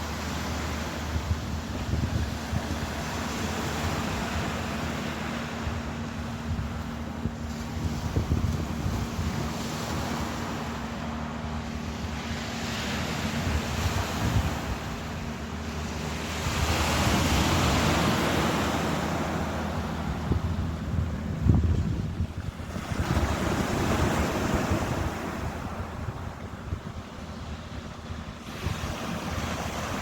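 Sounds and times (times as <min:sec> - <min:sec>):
ocean waves surging: 0:00.0 - 0:30.0
wind buffeting microphone: 0:00.0 - 0:30.0.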